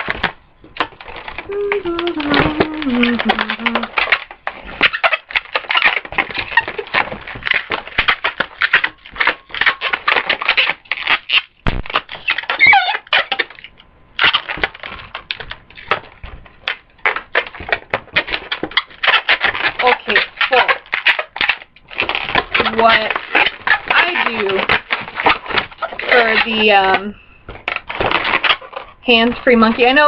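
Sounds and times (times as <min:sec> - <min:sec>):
balloons squeaking and rubbing: 0:00.0 - 0:30.0.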